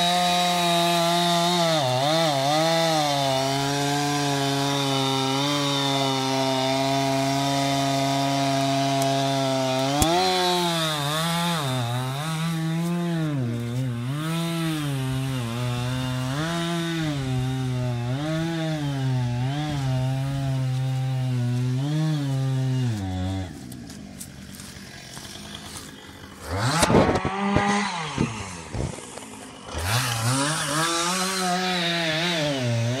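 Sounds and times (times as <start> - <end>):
chainsaw cutting branches: 0.0 - 33.0
wood cracking: 0.4 - 31.4.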